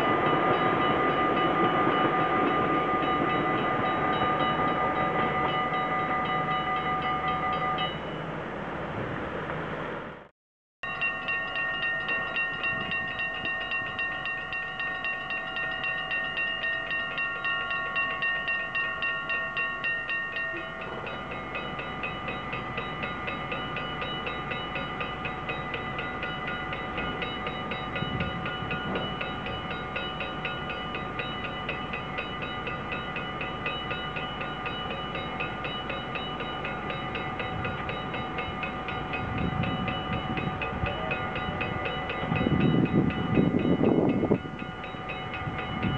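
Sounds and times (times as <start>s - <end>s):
level-crossing bells ringing: 0.0s - 8.3s, 10.8s - 45.9s
low rumble of approaching train: 0.0s - 45.9s.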